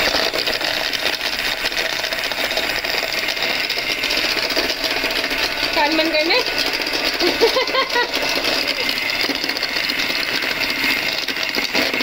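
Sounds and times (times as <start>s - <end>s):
electric hand mixer whipping: 0.0s - 12.0s.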